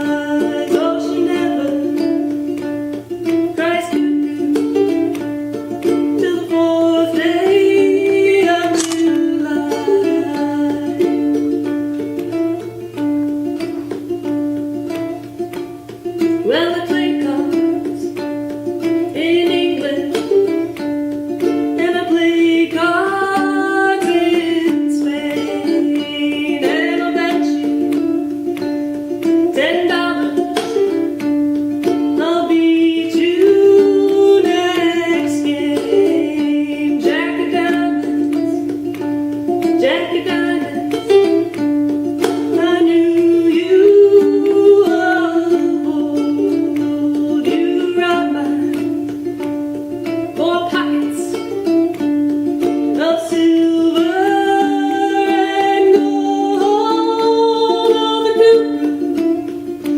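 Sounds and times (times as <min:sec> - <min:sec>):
ukulele folk melody: 0:00.0 - 0:59.9.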